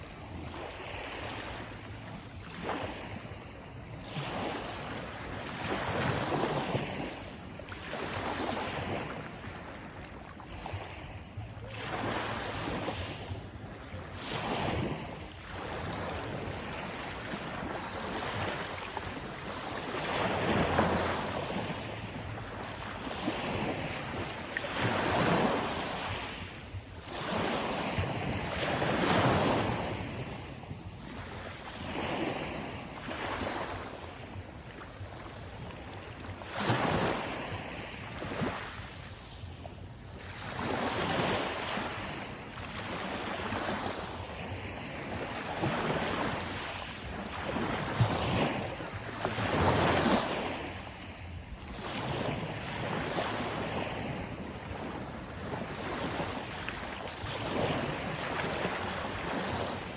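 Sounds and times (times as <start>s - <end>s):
sea waves washing in: 0.0s - 59.9s.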